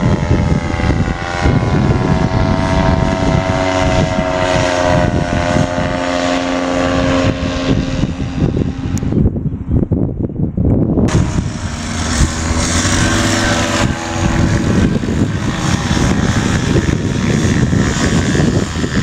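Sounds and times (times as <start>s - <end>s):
paramotor engine drone: 0.0s - 19.0s.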